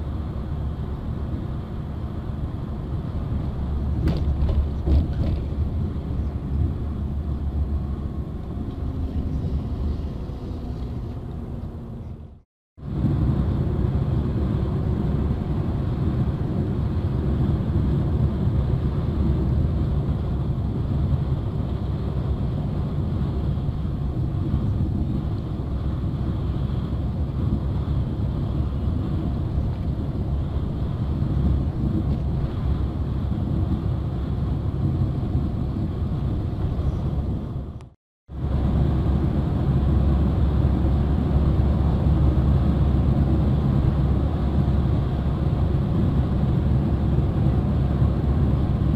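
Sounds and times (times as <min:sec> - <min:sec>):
road and engine rumble: 0:00.0 - 0:48.9.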